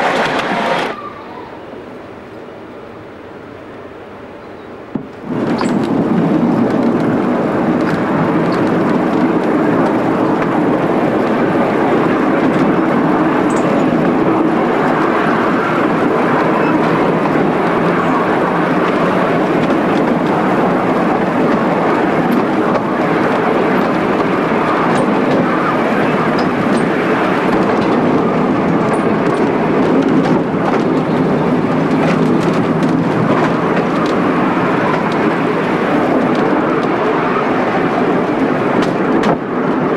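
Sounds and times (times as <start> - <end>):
tramcar rolling along track: 0.0 - 39.9.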